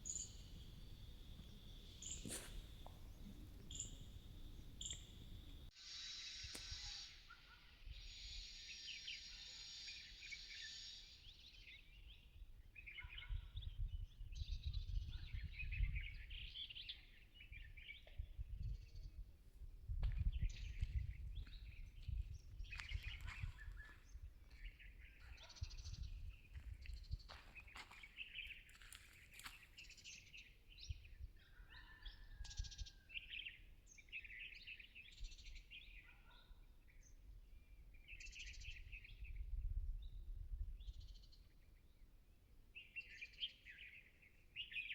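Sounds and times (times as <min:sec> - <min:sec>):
small birds chirping: 0:00.0 - 0:19.2, 0:20.0 - 0:42.2, 0:42.8 - 0:44.9.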